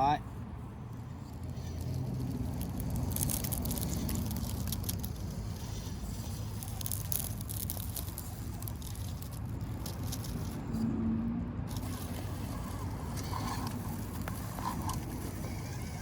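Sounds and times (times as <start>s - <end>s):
low steady rumble: 0.0s - 16.0s
toy car tyres crunching over rock: 0.9s - 10.8s, 11.7s - 16.0s.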